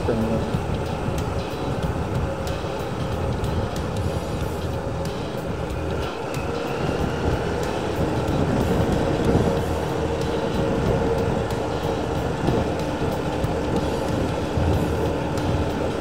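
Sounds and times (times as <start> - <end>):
motorcycle running: 0.0 - 16.0
tyres rumbling on paved road: 0.0 - 16.0
wind noise on microphone: 0.0 - 16.0.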